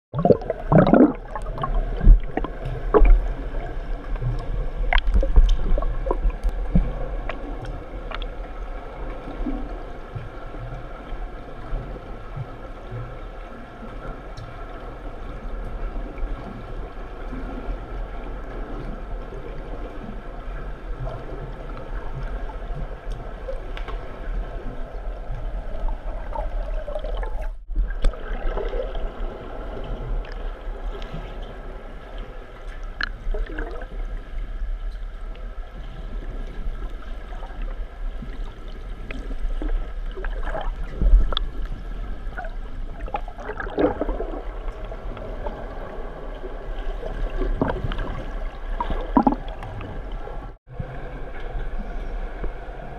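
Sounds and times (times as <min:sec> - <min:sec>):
swimmer strokes and bubbles: 0:00.1 - 0:52.9
underwater gurgling and churning: 0:00.1 - 0:52.9.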